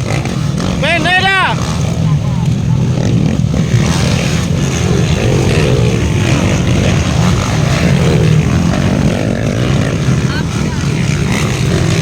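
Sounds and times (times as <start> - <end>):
motocross bike engines droning: 0.0 - 12.0.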